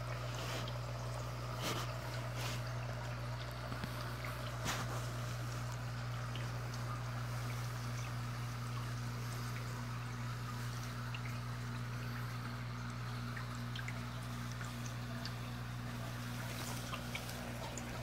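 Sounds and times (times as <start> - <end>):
air bubbles trickling underwater: 0.0 - 18.0
low electrical hum: 0.0 - 18.0.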